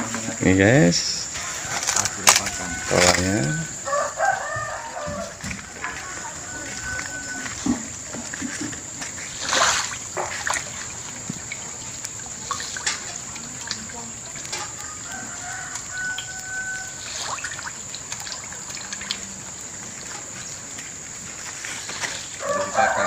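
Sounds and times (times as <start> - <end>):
chickens calling: 0.0 - 20.8, 21.6 - 23.0
trickling water: 0.0 - 23.0.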